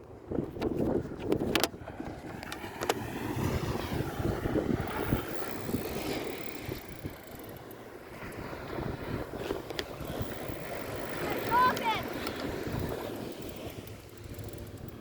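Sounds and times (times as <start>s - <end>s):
wind buffeting microphone: 0.0s - 15.0s
beach surf: 0.1s - 15.0s.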